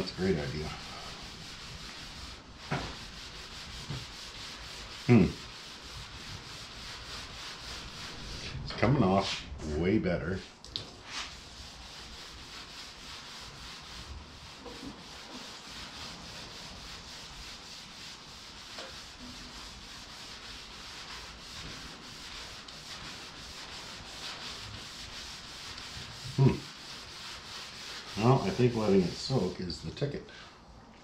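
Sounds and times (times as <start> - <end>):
steel wool scrubbing paint: 0.0 - 10.4, 11.0 - 30.0.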